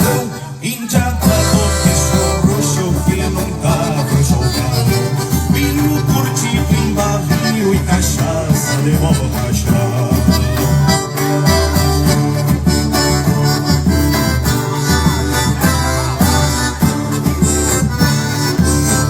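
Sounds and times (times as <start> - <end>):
accordion playing lead: 0.0 - 19.0
steady drum beat: 0.0 - 19.0
pulsing bass line: 1.0 - 19.0.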